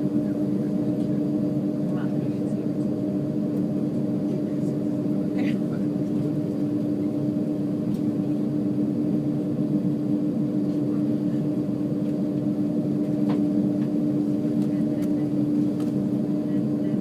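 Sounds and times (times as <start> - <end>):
airplane cabin drone: 0.0 - 17.0.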